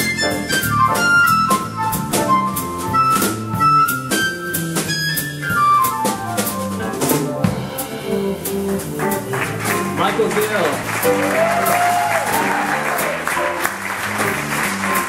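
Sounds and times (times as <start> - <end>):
drum kit strokes: 0.0 - 15.0
jazz combo playing: 0.0 - 15.0.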